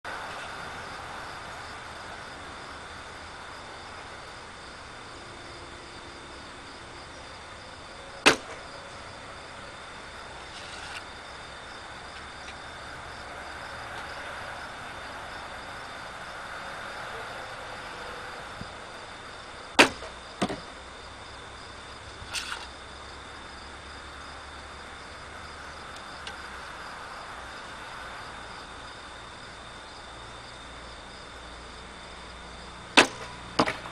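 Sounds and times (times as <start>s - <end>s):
insect chirring: 0.1s - 33.4s.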